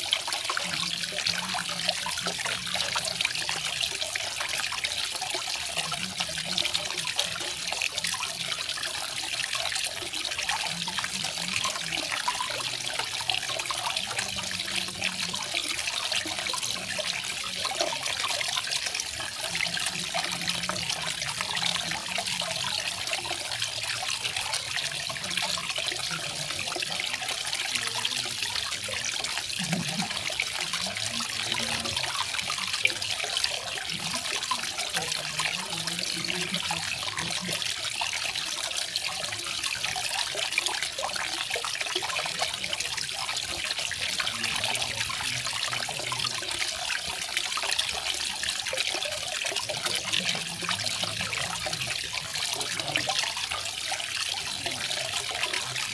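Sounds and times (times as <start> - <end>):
water splashing and trickling: 0.0 - 55.9.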